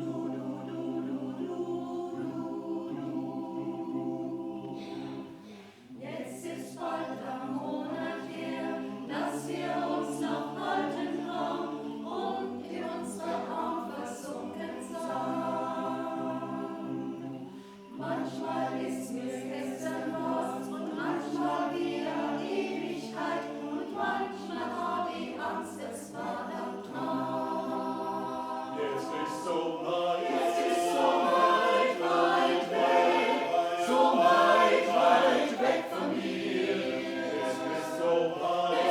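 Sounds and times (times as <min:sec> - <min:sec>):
choir singing in harmony: 0:00.0 - 0:38.9.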